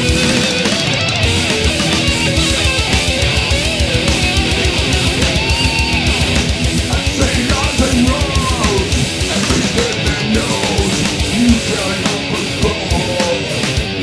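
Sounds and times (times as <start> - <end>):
electric guitar: 0.0 - 14.0
fast drumbeat: 0.0 - 14.0.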